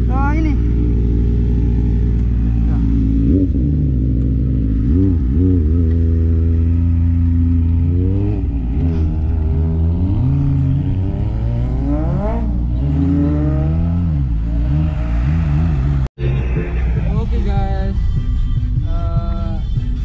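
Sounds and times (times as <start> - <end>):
motorcycle engine accelerating: 0.0 - 17.7.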